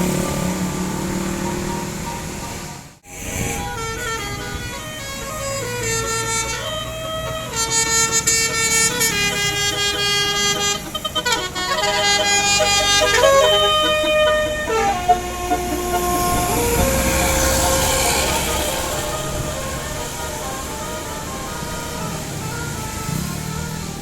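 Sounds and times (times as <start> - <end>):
air horns playing a tune: 3.4 - 24.0.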